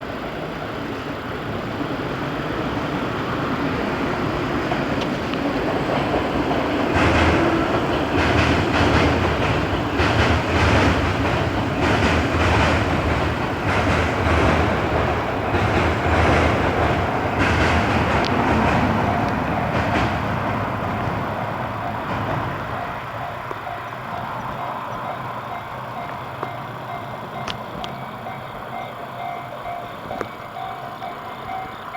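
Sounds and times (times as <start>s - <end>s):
wheels clattering over rail joints: 0.0s - 31.9s.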